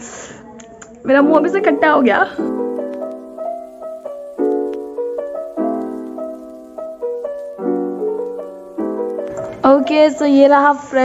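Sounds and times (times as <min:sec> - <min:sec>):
gentle piano music: 0:01.1 - 0:10.9.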